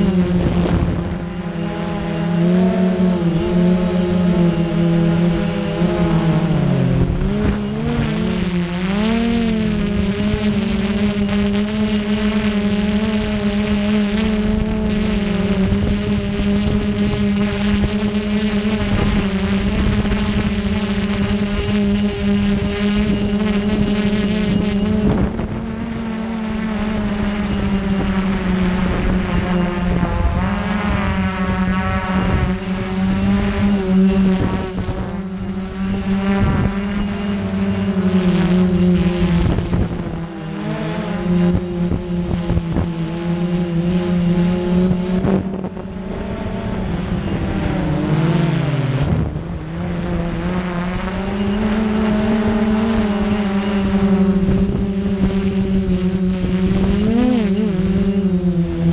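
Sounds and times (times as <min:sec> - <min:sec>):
drone propeller motors humming: 0:00.0 - 0:58.9.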